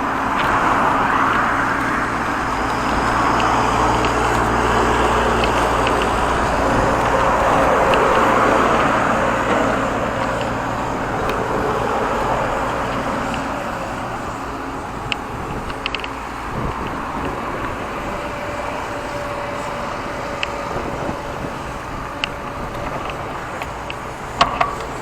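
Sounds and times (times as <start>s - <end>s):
road traffic noise: 0.0s - 25.0s
vehicle passing: 0.0s - 25.0s.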